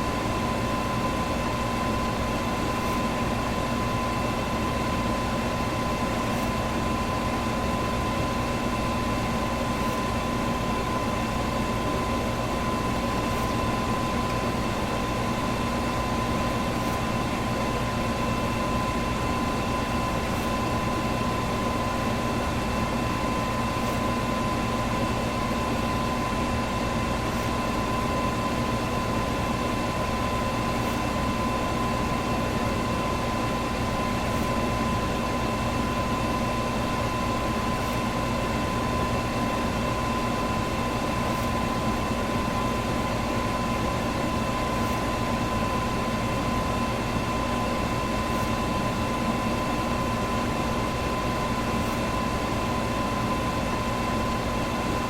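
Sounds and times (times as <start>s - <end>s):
fan motor hum: 0.0s - 55.0s.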